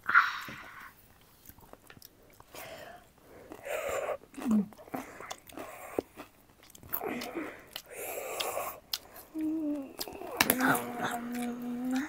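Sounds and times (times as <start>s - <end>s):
chewing and crunching food: 1.1s - 12.0s.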